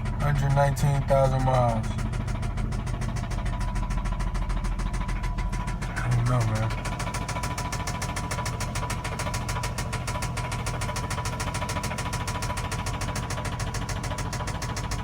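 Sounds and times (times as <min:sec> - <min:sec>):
car engine running: 0:00.0 - 0:15.0
rapid engine tapping: 0:00.0 - 0:15.0.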